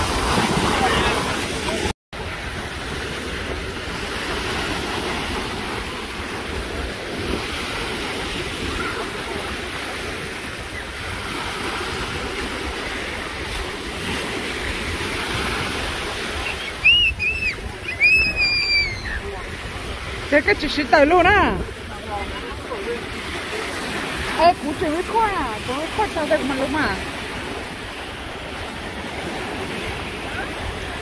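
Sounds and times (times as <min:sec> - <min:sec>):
small waves washing onto beach: 0:00.0 - 0:31.0
wind rumbling on microphone: 0:00.0 - 0:31.0.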